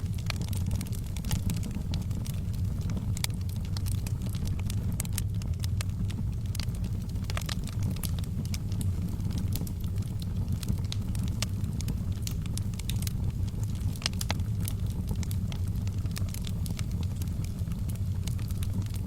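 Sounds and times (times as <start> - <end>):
fire low rumble: 0.0 - 19.0
logs crackling and popping: 0.0 - 19.0.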